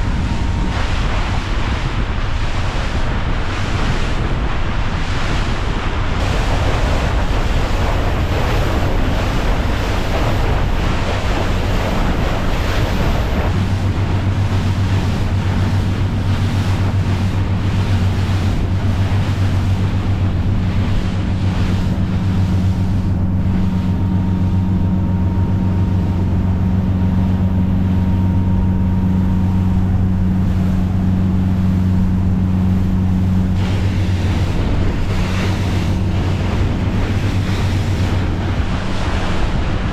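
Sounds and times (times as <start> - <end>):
motorboat engine humming: 0.0 - 39.9
rushing water: 0.0 - 39.9
wind buffeting microphone: 0.0 - 39.9.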